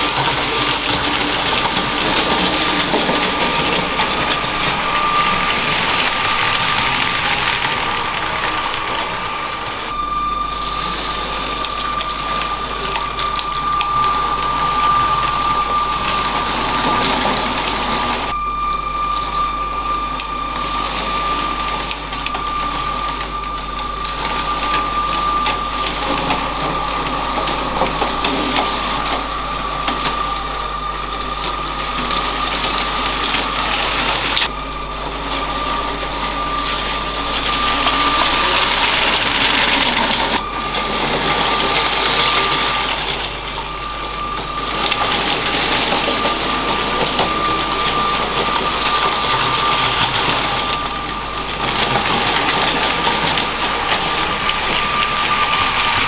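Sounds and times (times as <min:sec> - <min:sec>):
plastic wheels rattling on track: 0:00.0 - 0:18.4, 0:20.1 - 0:56.0
toy train motor whine: 0:00.0 - 0:56.0.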